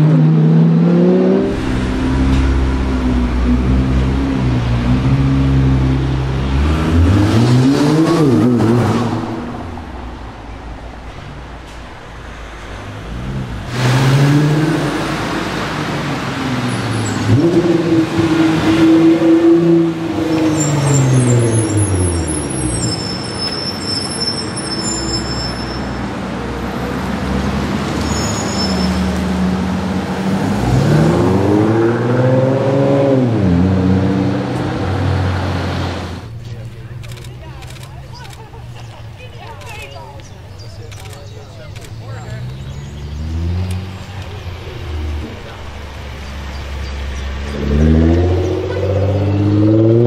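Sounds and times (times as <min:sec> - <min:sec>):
car engines accelerating: 0:00.0 - 0:50.0.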